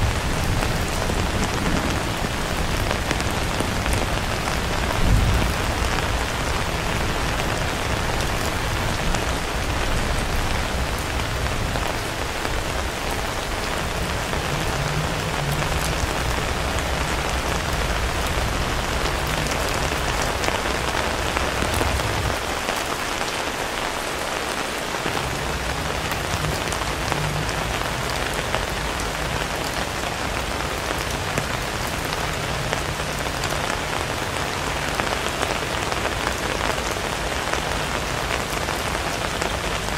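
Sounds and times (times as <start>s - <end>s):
rain falling on pavement: 0.0s - 39.9s.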